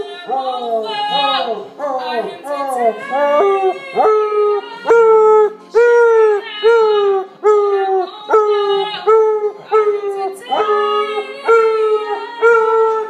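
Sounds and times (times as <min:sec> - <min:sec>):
dog howling: 0:00.0 - 0:13.0
woman singing: 0:02.2 - 0:13.0.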